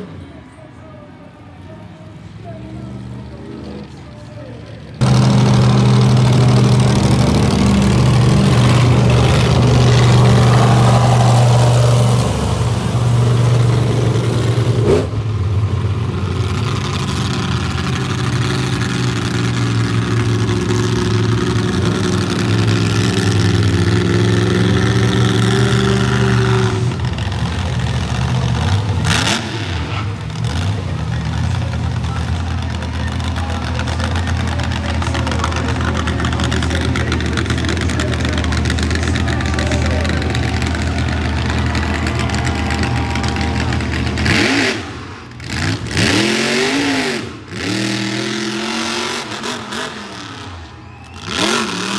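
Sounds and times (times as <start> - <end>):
truck engine running loud: 1.5 - 51.9.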